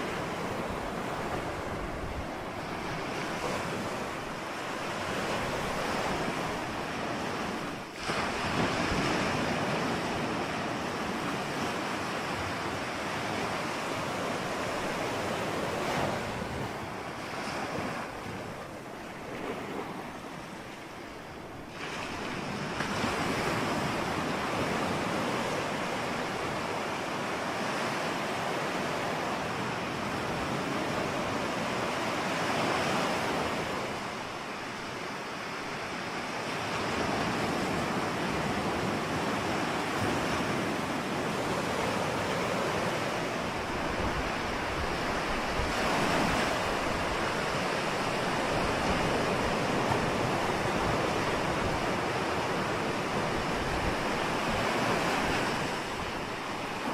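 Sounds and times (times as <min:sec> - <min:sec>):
ocean waves washing ashore: 0:00.0 - 0:56.9.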